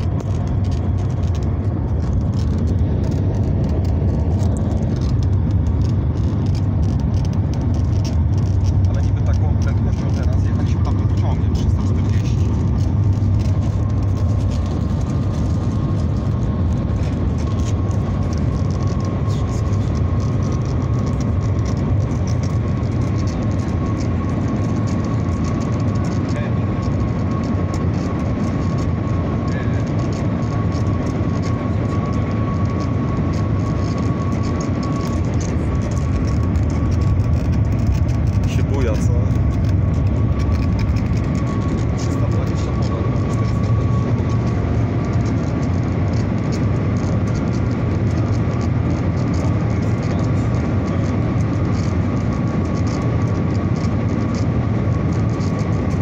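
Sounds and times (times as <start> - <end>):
train cabin low rumble: 0.0 - 28.1, 29.0 - 48.6
thin high whine: 0.0 - 56.0.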